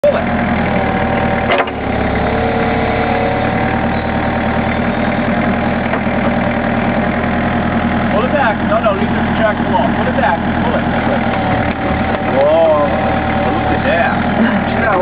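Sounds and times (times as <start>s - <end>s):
backhoe engine idling: 0.0s - 15.0s.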